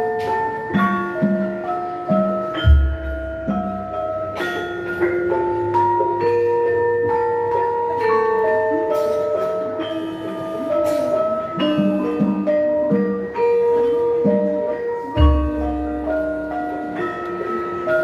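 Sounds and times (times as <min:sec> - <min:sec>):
gamelan ensemble playing: 0:00.0 - 0:18.0
sharp metallophone strokes: 0:00.0 - 0:18.0.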